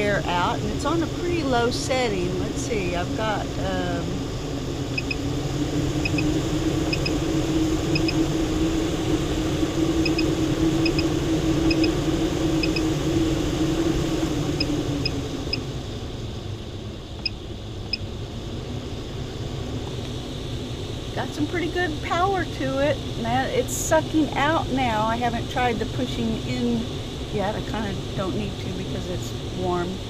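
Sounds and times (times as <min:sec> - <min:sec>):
roof vent fan whirring: 0:00.0 - 0:30.0.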